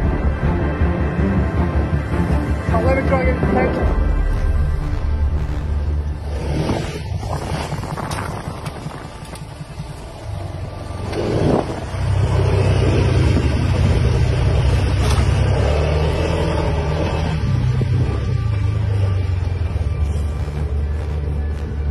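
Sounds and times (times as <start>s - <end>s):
off-road vehicle engine: 0.0s - 21.9s.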